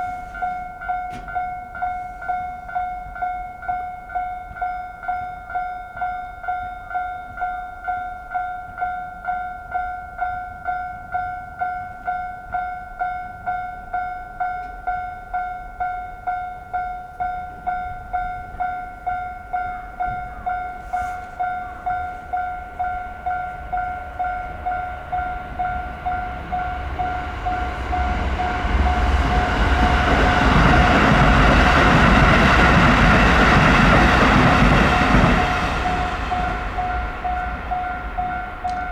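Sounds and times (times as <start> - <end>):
passing train rumble: 0.0 - 3.3, 9.6 - 38.9
level crossing warning bell: 0.0 - 38.9.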